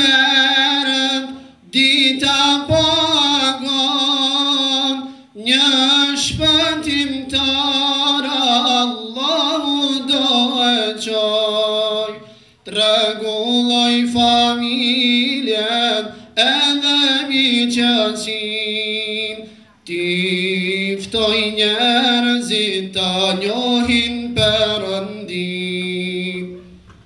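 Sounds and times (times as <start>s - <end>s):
men singing devotional song: 0.0s - 26.8s.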